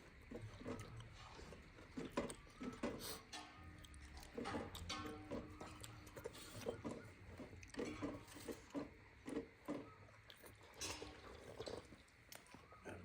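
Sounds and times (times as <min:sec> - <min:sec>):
chewing and smacking mouth sounds: 0:00.0 - 0:13.0.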